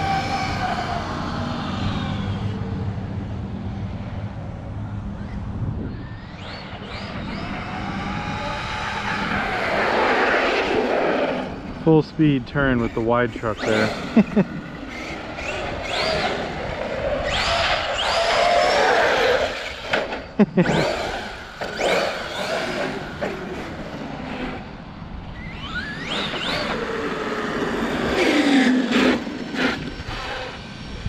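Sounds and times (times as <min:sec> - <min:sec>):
electric motor whining: 0:00.0 - 0:03.0, 0:05.2 - 0:11.8, 0:12.6 - 0:31.0.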